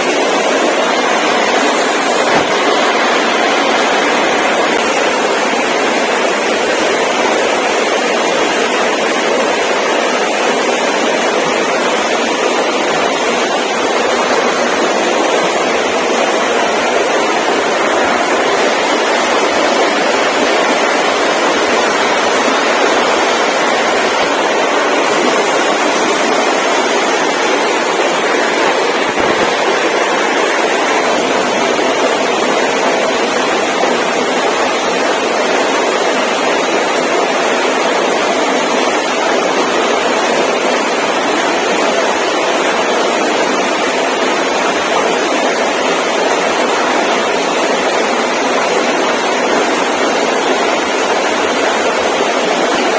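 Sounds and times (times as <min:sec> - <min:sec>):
loud steady rushing noise: 0:00.0 - 0:52.9.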